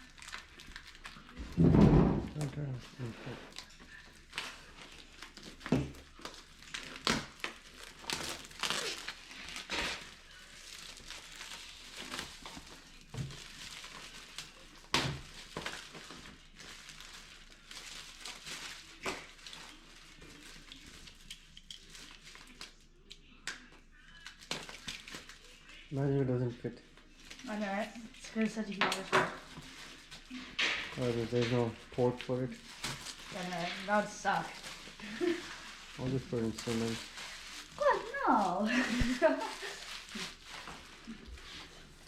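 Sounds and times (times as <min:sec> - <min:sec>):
packaging crinkling and rustling: 0:00.0 - 0:23.3, 0:24.0 - 0:42.0.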